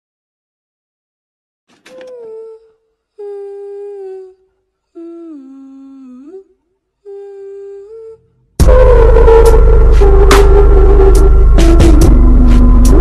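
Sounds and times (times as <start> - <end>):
person humming a slow tune: 1.9 - 13.0.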